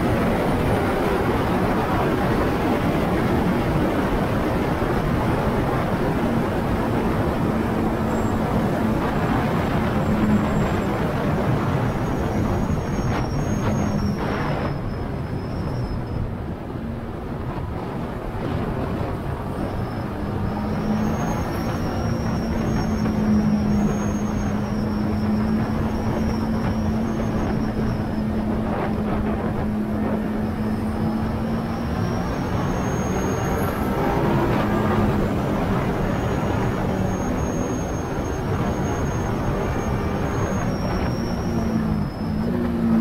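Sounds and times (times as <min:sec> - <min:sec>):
motorcycle engine at speed: 0:00.0 - 0:43.0
wind noise: 0:00.0 - 0:43.0.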